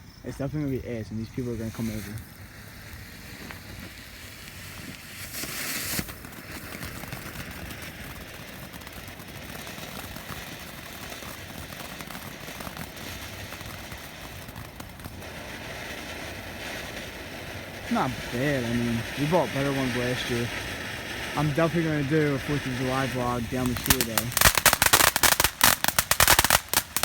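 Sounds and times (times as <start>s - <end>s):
firework crackling: 0.0s - 27.0s
firework hiss: 0.0s - 27.0s.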